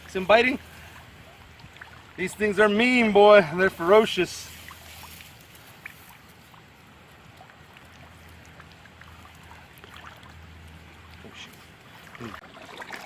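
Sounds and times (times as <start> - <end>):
faint flowing water: 0.0 - 13.0.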